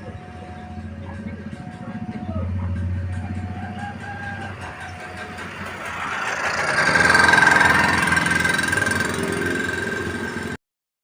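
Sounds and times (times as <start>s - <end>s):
steady high tone: 0.0s - 10.6s
train engine and wheel noise: 0.0s - 10.6s.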